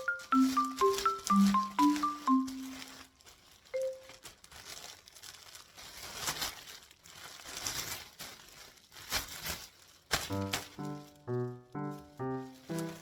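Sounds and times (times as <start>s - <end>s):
crinkly rustling: 0.0s - 13.0s.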